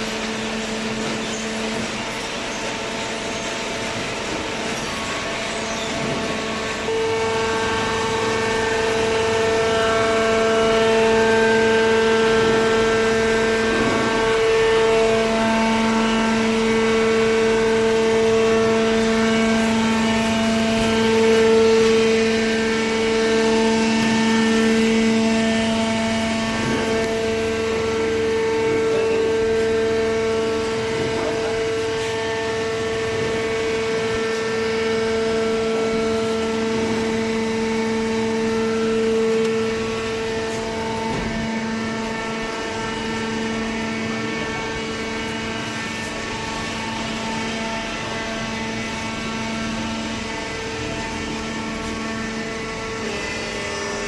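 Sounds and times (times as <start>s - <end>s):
baler machinery humming: 0.0s - 54.0s.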